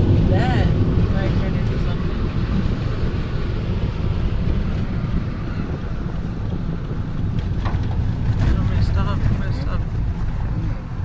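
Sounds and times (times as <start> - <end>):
car driving rumble: 0.0 - 11.0
wind buffeting microphone: 0.0 - 11.0.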